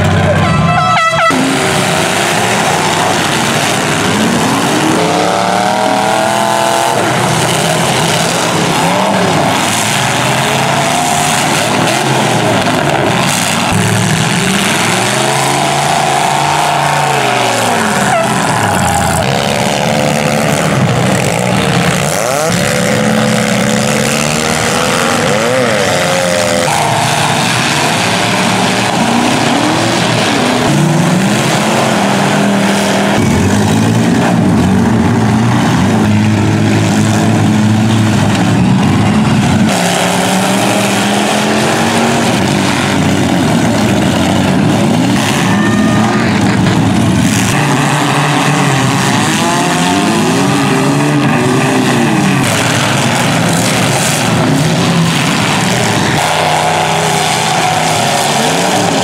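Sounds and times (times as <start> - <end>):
car engines revving: 0.0 - 59.0
cars ramming each other: 0.0 - 59.0.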